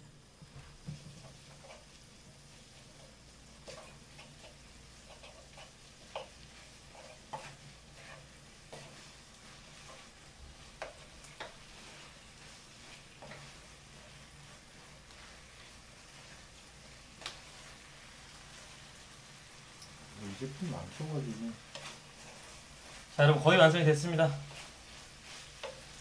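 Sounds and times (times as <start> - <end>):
faint sizzle: 0.0 - 26.0
spatula scraping frying pan: 0.9 - 26.0.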